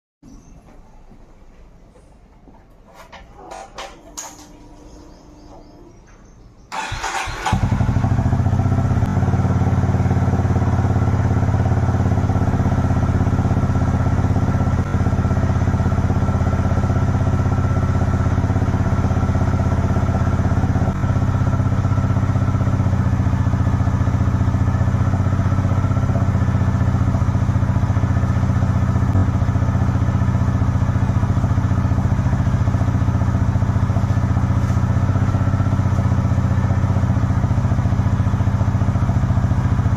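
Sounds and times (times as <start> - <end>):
motorcycle engine starting and idling: 2.9 - 39.9.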